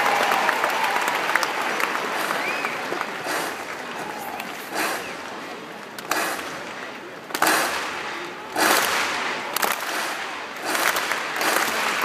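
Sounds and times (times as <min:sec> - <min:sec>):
crowd clapping and cheering: 0:00.0 - 0:07.7, 0:08.5 - 0:12.0.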